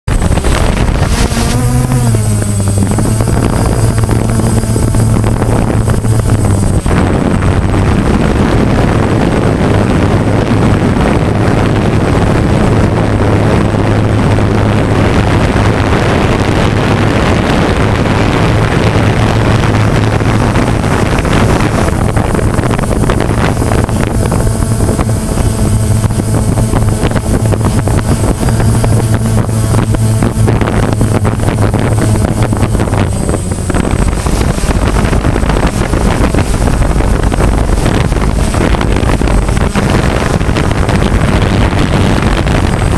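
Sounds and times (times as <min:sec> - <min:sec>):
drone propellers humming: 0:00.0 - 0:42.9
wind buffeting microphone: 0:00.0 - 0:42.9.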